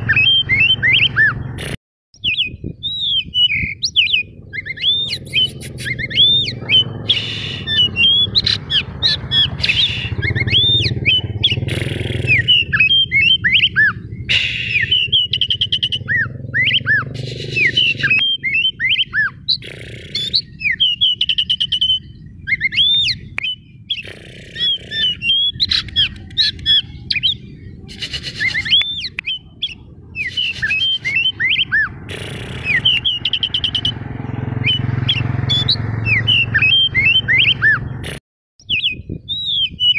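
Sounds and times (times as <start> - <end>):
magpie-robin singing: 0.0 - 1.6, 2.2 - 38.0, 38.6 - 39.9.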